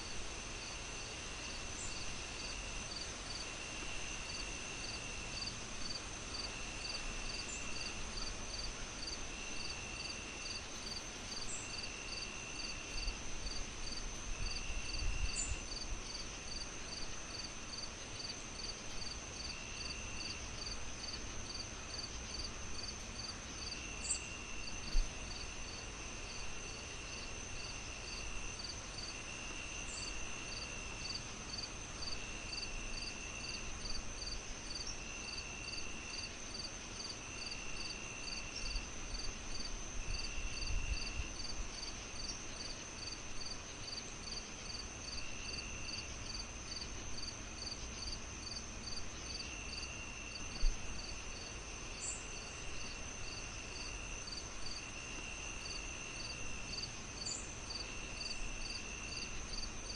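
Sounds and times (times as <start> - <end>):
crickets chirping: 0.0 - 59.9
lower insect trill: 0.6 - 59.9
high insect trill: 1.4 - 59.9.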